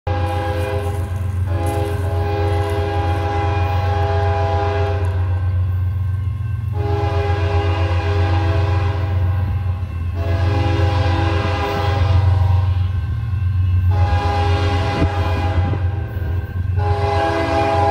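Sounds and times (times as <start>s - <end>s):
locomotive air horn blasts: 0.1s - 5.6s, 6.7s - 13.0s, 13.8s - 17.9s.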